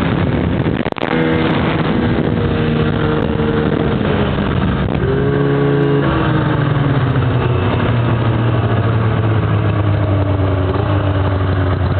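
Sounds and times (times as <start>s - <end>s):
snowmobile engine running: 0.0s - 11.9s.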